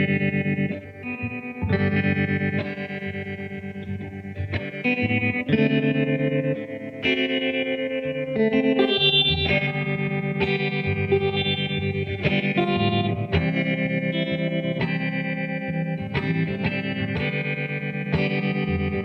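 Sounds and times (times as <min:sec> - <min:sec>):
finger-picked electric guitar chords: 0:00.0 - 0:19.0.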